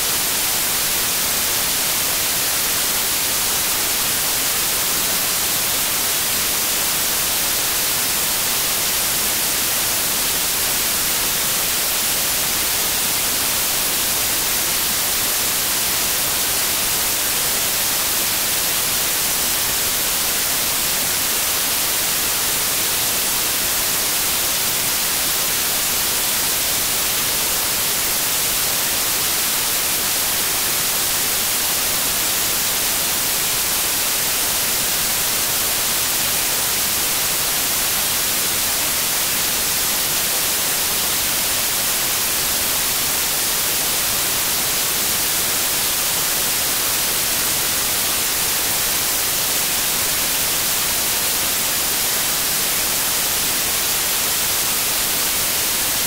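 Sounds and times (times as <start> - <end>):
steady bright noise hiss: 0.0 - 56.0.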